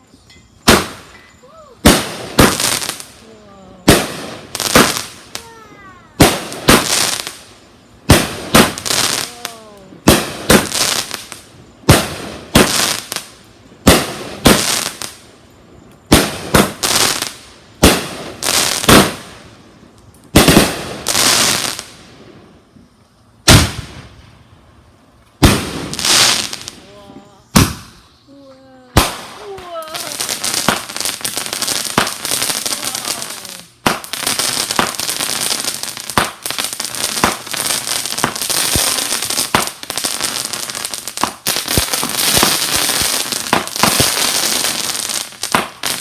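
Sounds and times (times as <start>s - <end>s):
fireworks banging and crackling: 0.0s - 24.4s, 25.2s - 28.1s, 28.8s - 46.0s.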